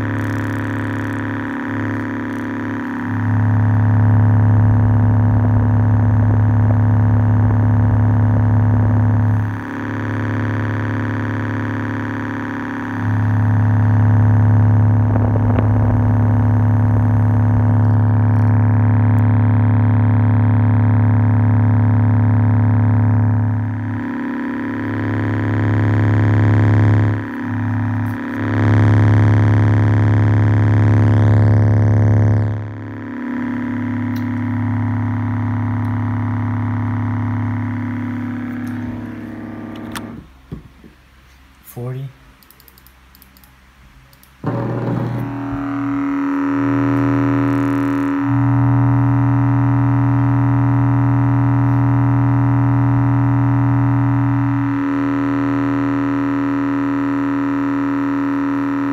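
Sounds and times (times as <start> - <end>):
subwoofer playing low test tone: 0.0 - 41.2, 44.3 - 58.9.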